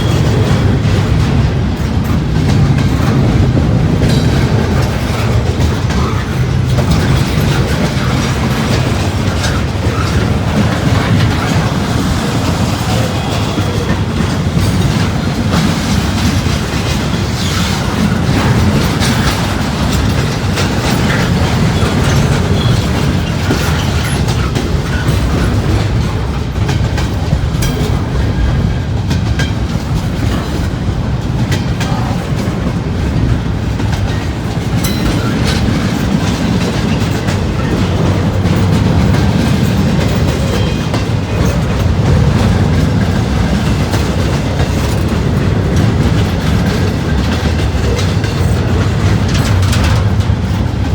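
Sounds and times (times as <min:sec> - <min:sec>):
train wheels rumbling on rail: 0:00.0 - 0:50.9
wheels clacking over rail joints: 0:00.0 - 0:50.9.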